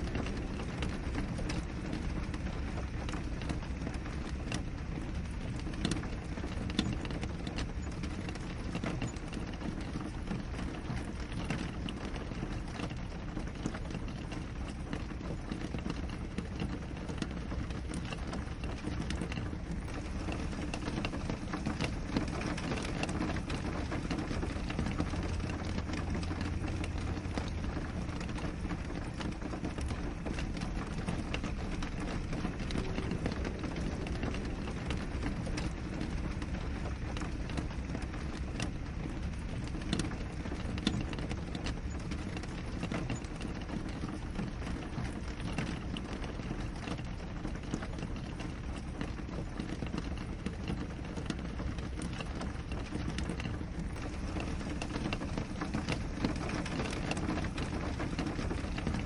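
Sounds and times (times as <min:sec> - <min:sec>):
rain hiss: 0:00.0 - 0:59.0
raindrops ticking on glass: 0:00.0 - 0:59.0.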